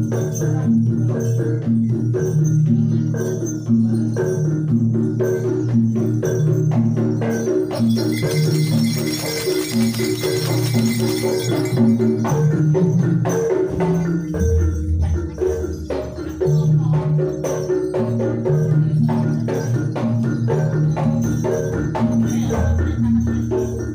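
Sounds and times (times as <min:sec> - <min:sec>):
drum: 0:00.0 - 0:23.9
gamelan music: 0:00.0 - 0:23.9
jingling percussion: 0:00.0 - 0:23.9.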